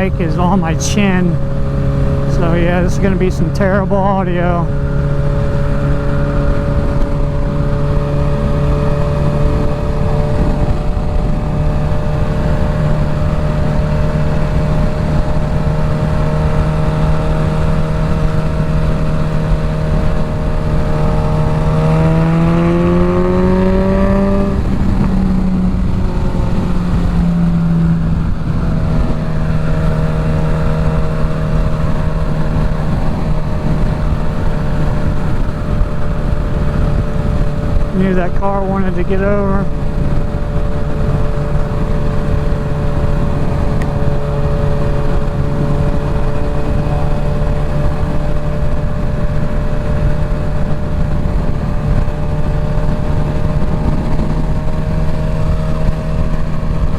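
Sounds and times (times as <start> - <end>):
heavy wind noise: 0.0 - 56.9
motorcycle engine cruising: 0.0 - 56.9.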